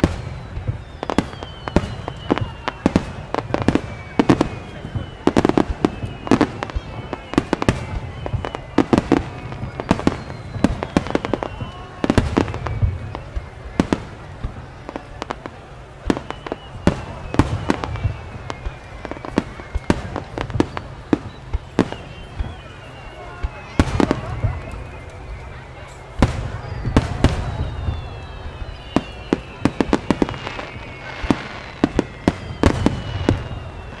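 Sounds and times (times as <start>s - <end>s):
fireworks bangs and cracks: 0.0s - 34.0s.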